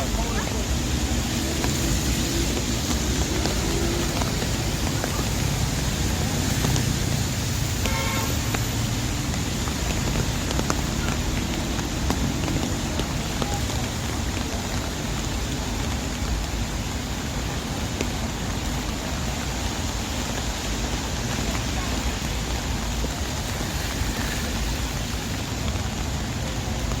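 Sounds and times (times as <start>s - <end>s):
steady rain hiss: 0.0s - 27.0s
vehicles passing rumble: 0.0s - 27.0s.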